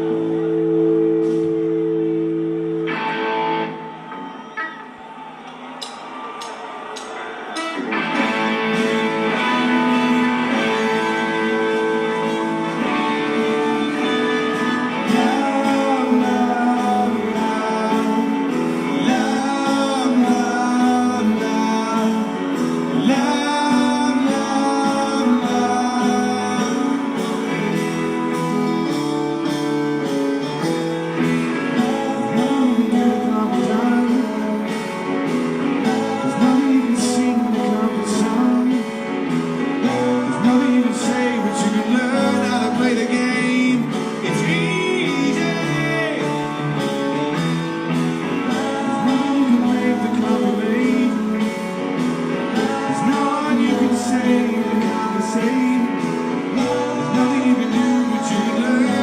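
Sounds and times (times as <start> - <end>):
rock band playing: 0.0 - 59.0
strummed guitars: 0.0 - 59.0
person singing: 3.7 - 59.0.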